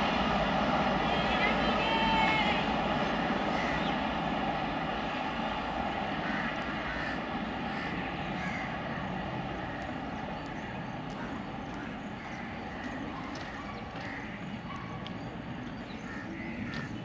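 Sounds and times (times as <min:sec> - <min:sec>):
train rumbling away: 0:00.0 - 0:17.0.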